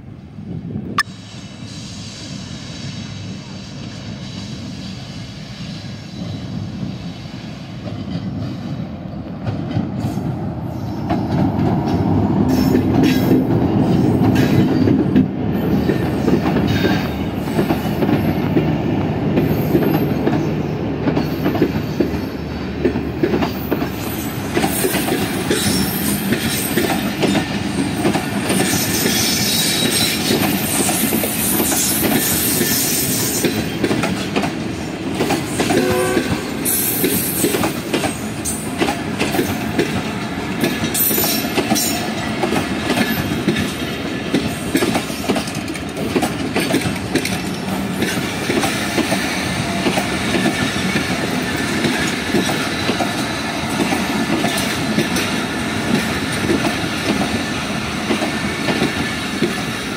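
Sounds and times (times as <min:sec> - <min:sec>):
diesel locomotive engine drone: 0:00.0 - 0:59.9
clickety-clack of train wheels: 0:00.6 - 0:59.9.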